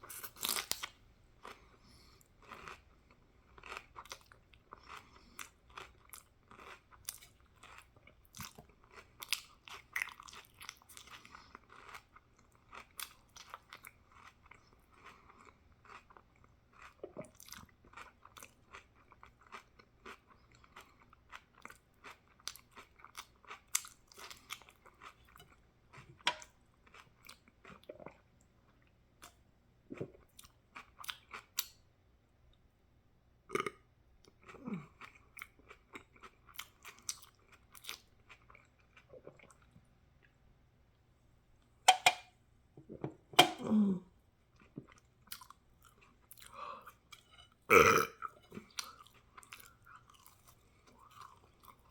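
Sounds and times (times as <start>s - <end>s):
person chewing crunchy food: 0.0s - 28.2s, 34.3s - 40.3s, 44.6s - 51.9s.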